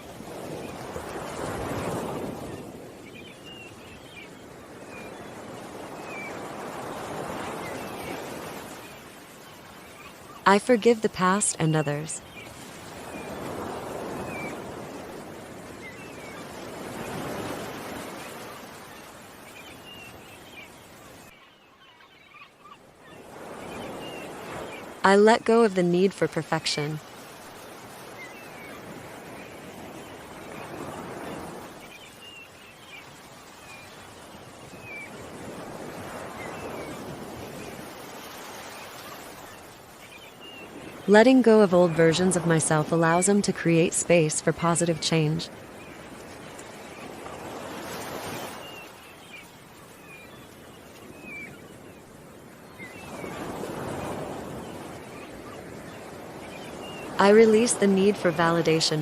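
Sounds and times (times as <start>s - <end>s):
ocean waves washing ashore: 0.0s - 59.0s
small birds chirping: 1.6s - 26.1s, 26.8s - 59.0s.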